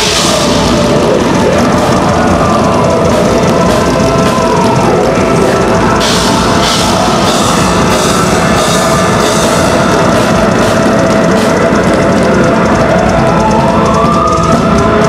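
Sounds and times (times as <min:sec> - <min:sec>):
cymbal crashes: 0:00.0 - 0:13.0
live metal band playing: 0:00.0 - 0:15.0
rapid kick drums: 0:00.0 - 0:15.0.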